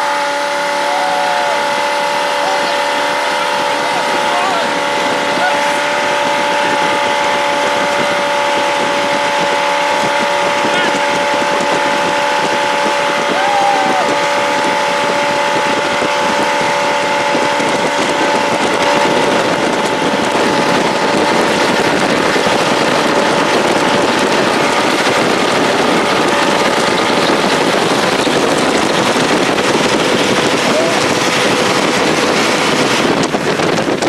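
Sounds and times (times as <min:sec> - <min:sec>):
boat engine whine: 0:00.0 - 0:34.0
wind noise on microphone: 0:00.0 - 0:34.0.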